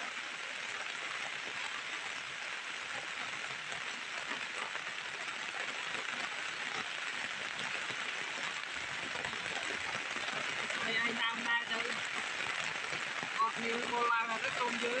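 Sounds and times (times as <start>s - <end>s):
heavy rain on metal and umbrella: 0.0s - 15.0s.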